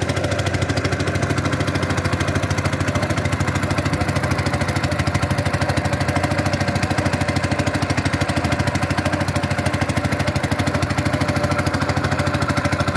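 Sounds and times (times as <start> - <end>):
small engine idling: 0.0 - 12.9.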